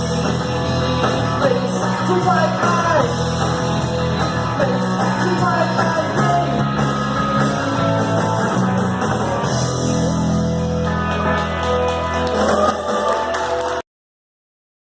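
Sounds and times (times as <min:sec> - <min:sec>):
steady bass: 0:00.0 - 0:13.2
electric guitar: 0:00.0 - 0:13.8
live rock band playing: 0:00.0 - 0:13.8.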